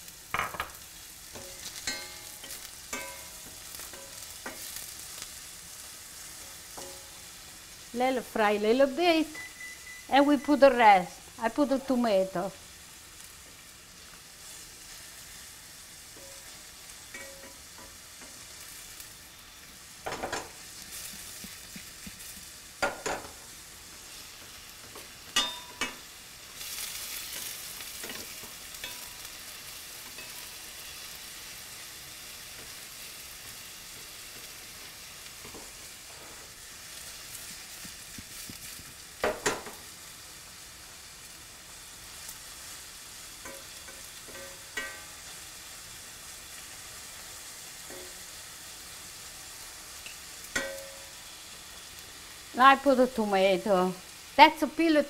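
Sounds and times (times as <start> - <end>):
vegetables sizzling in oil: 0.0 - 55.0.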